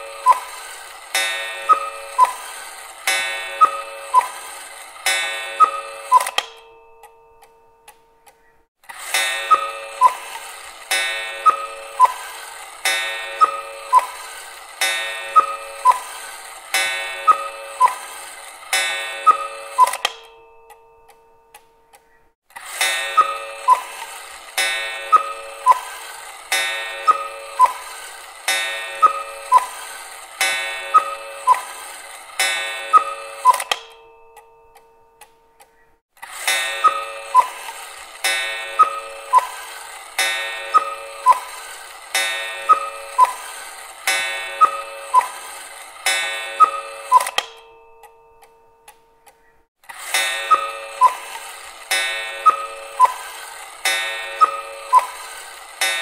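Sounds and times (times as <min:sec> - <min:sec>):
cuckoo clock calling: 0:00.0 - 0:56.0.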